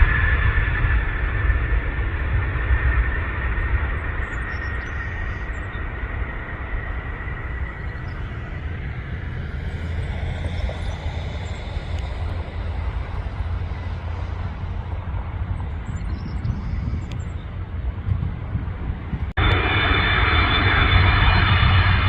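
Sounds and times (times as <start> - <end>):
jet engine rumble: 0.0 - 22.0
jet engine whine: 0.0 - 22.0.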